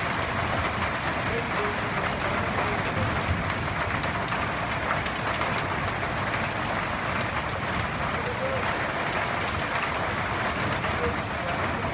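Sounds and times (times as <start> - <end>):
heavy rain on a rooftop: 0.0 - 11.9.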